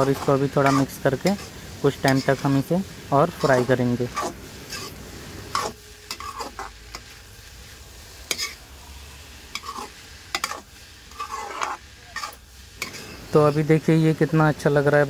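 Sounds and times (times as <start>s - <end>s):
metal spatula scraping a pan: 0.0s - 2.6s, 3.3s - 8.6s, 9.4s - 13.6s
faint sizzle of frying: 0.0s - 15.0s.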